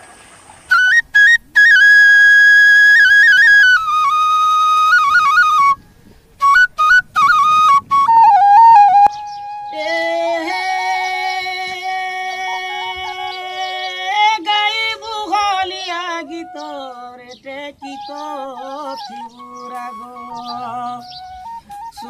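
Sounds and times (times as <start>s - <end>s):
solo flute melody: 0.7s - 14.3s, 15.6s - 22.0s.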